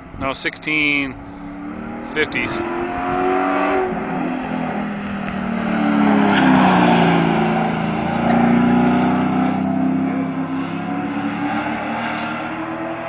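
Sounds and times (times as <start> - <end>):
race car engine passing: 1.1 - 13.0.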